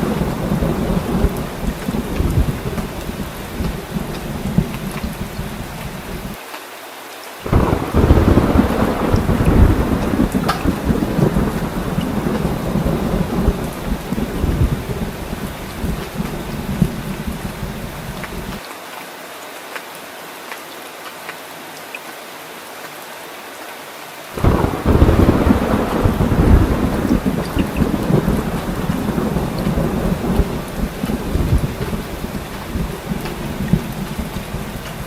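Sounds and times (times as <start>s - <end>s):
rolling thunder rumbling: 0.0s - 6.4s, 7.5s - 18.6s, 24.4s - 35.0s
heavy rain: 0.0s - 35.0s.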